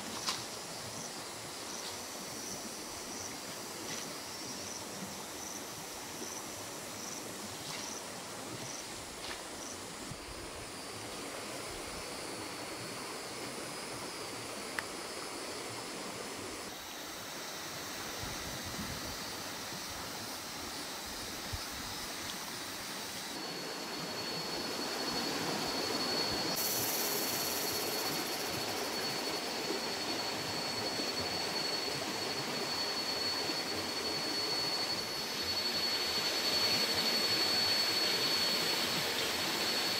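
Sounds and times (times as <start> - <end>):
rushing outdoor ambience: 0.0 - 39.9
steady high whine: 0.0 - 39.9.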